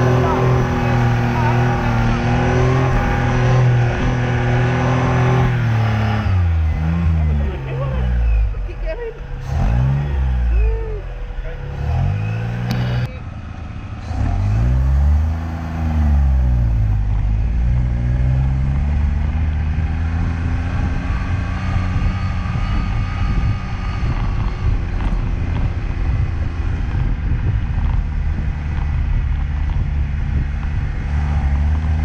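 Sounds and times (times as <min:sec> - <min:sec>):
rough road noise: 0:00.0 - 0:32.0
sports car engine under load: 0:00.0 - 0:32.0.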